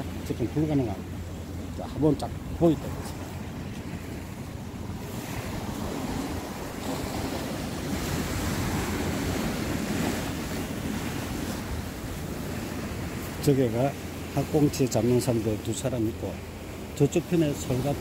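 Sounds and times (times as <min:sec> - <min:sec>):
wind rumble on microphone: 0:00.0 - 0:18.0
surf breaking on rocks: 0:02.0 - 0:18.0.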